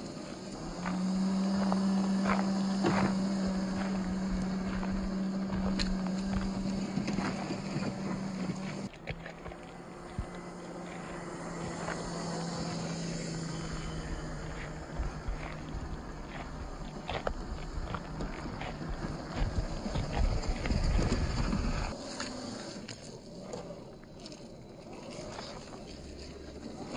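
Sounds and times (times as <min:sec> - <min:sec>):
electric motor hum: 0:00.0 - 0:26.9.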